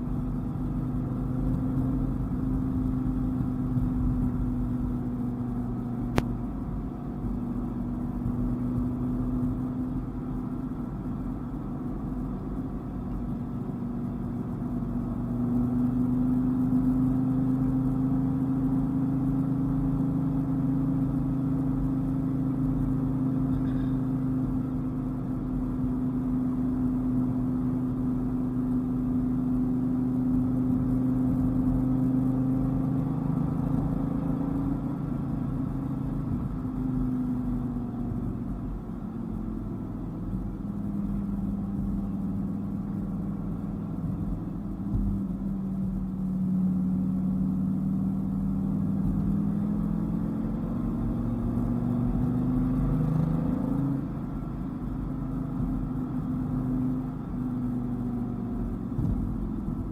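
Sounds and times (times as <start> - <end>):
car engine cruising: 0.0 - 59.9.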